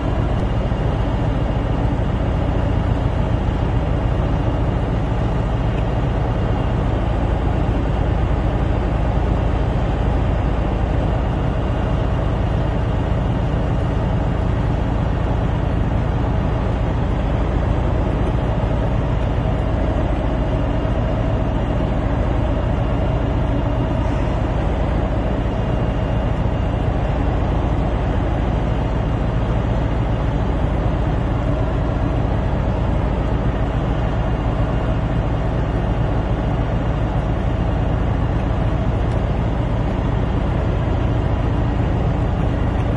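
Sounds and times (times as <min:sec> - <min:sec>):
heavy machinery deep rumble: 0:00.0 - 0:42.9.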